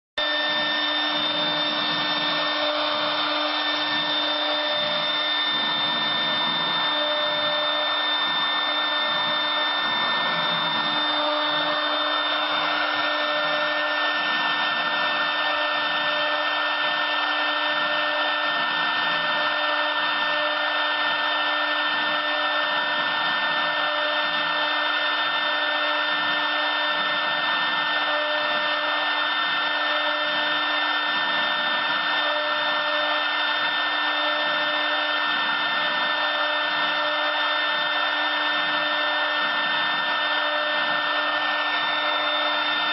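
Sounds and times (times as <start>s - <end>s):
wood router spindle whine: 0.2s - 42.9s.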